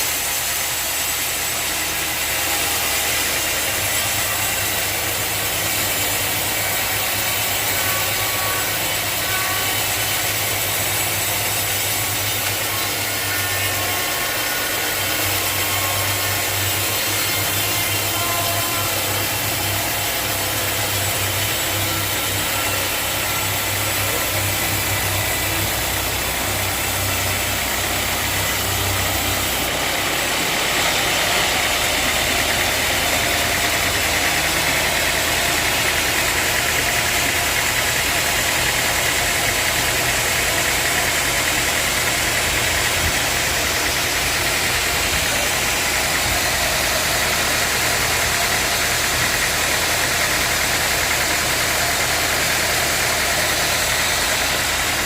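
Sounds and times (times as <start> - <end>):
harsh high machine noise: 0.0 - 55.0
sawmill machinery drone: 0.0 - 55.0.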